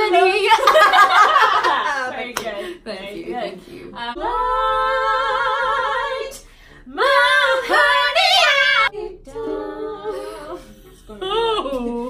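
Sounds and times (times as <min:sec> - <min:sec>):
women singing: 0:00.0 - 0:12.0.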